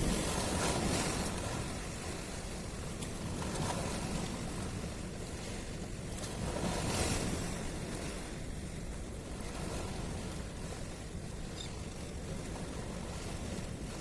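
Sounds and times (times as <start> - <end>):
sea waves washing at shore: 0.0 - 14.0
wind buffeting microphone: 0.0 - 14.0.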